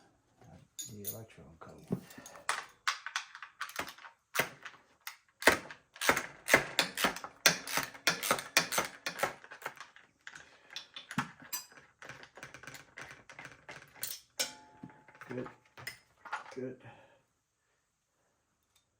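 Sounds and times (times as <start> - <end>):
hand tools clicking and clattering: 0.7 - 16.6.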